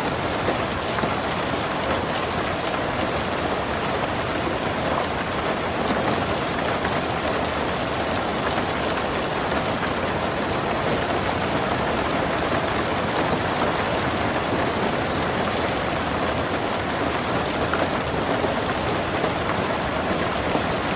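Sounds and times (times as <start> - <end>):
heavy rain downpour: 0.0 - 20.9.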